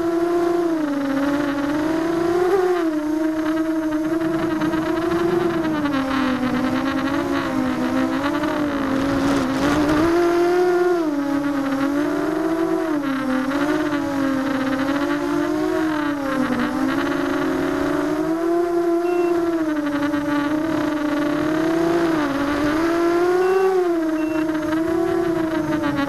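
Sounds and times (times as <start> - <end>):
drone motors and propellers whining: 0.0 - 26.0.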